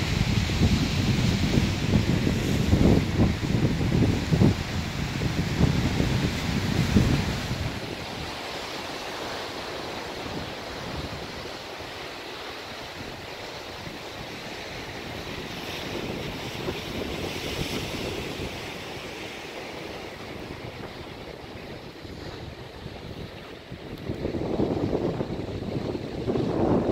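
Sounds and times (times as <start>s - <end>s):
surf breaking on rocks: 0.0s - 26.9s
wind buffeting microphone: 0.0s - 26.9s.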